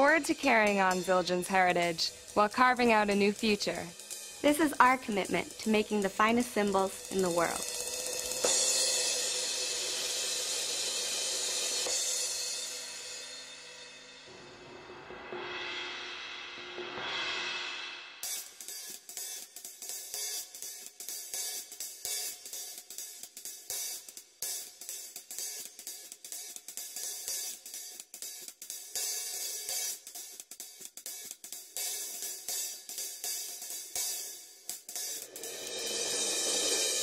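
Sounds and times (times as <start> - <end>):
drum kit fast rhythm: 0.0 - 14.0, 17.4 - 37.0.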